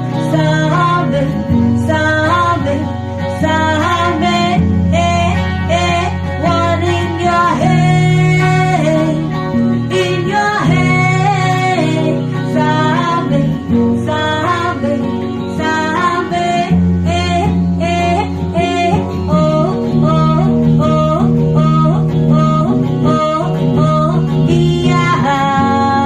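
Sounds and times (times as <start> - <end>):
song with guitar accompaniment: 0.0 - 26.0.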